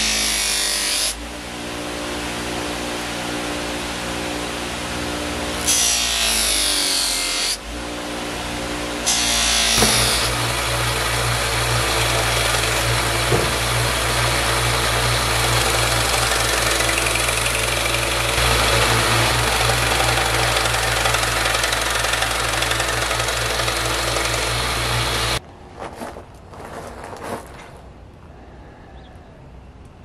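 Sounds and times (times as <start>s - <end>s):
electric grinder grinding knife: 0.0s - 25.4s.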